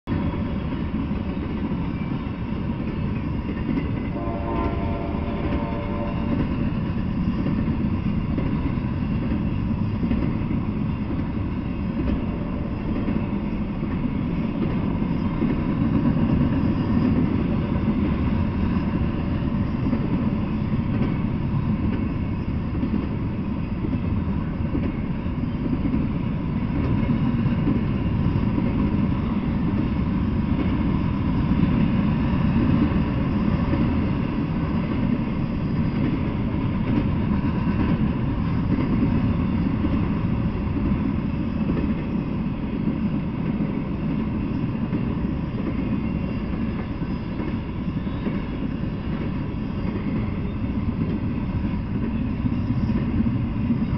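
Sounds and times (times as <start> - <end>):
freight train rumbling on rails: 0.0 - 53.9.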